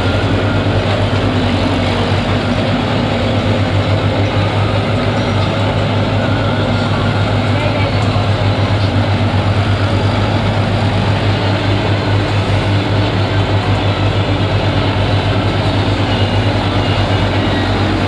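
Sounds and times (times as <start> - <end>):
tractor diesel engine throbbing: 0.0 - 18.0.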